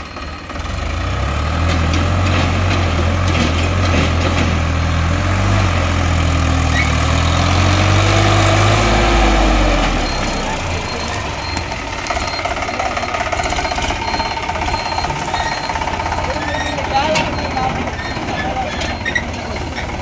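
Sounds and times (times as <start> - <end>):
tractor diesel engine pulling: 0.0 - 20.0.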